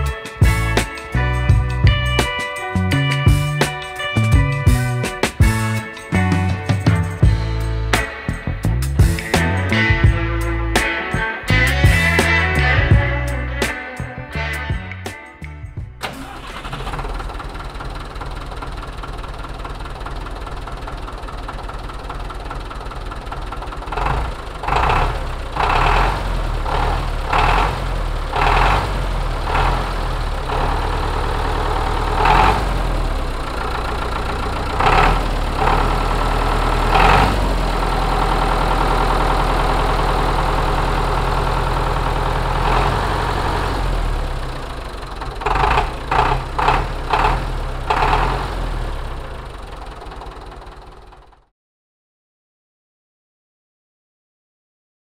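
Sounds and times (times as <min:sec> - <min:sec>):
tractor engine idling and revving: 0:00.0 - 0:51.5.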